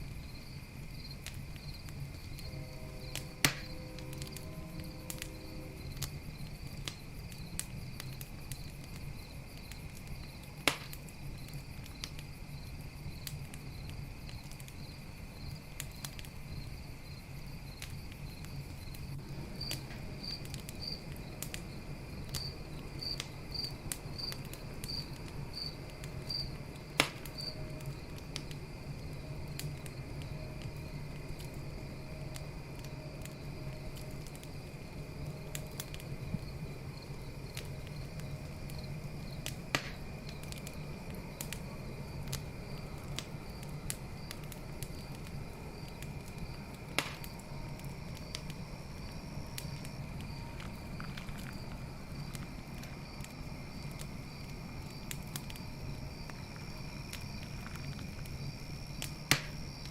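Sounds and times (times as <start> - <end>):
campfire crackling: 0.0 - 59.9
crickets chirping: 0.0 - 59.9
crickets trilling: 0.0 - 59.9
fire pops: 0.0 - 59.9.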